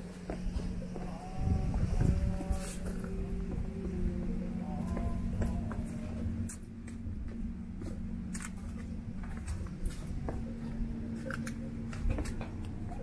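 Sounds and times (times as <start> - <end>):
footsteps on stone and gravel: 0.0 - 13.0
steady low hum: 0.0 - 13.0.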